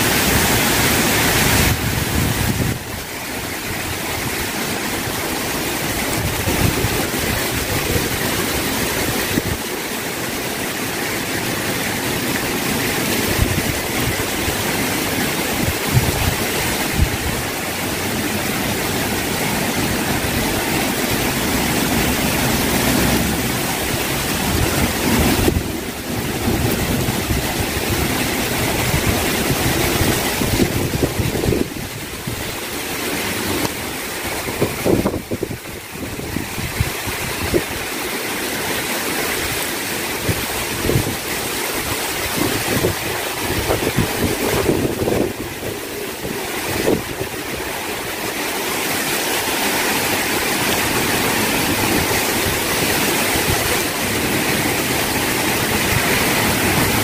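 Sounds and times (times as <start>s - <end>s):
heavy rain pouring: 0.0s - 57.0s
wind buffeting microphone: 0.1s - 9.8s, 11.9s - 38.0s, 39.5s - 57.0s.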